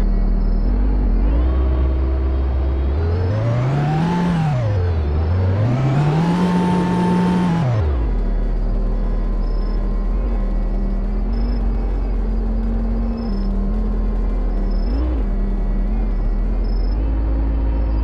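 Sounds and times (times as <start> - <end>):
car engine idling: 0.0 - 18.0
car engine revving: 0.0 - 18.0.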